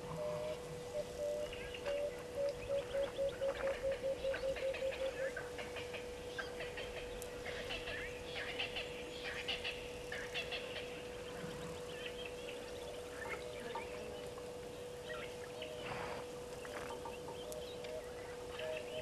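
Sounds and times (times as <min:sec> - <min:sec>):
steady low hum: 0:00.0 - 0:19.0
wild birds chirping: 0:00.0 - 0:19.0.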